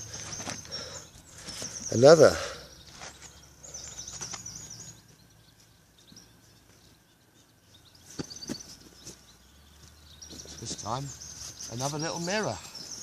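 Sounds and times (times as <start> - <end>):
small birds twittering: 0.0 - 13.0.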